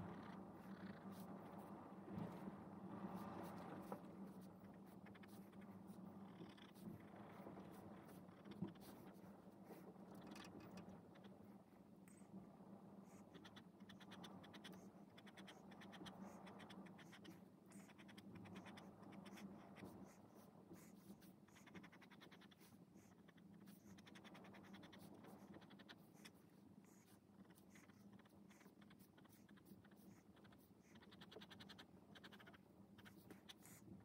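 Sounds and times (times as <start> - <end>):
low steady hum: 0.0 - 34.0
pen scratching on paper: 0.2 - 11.3, 13.1 - 33.9.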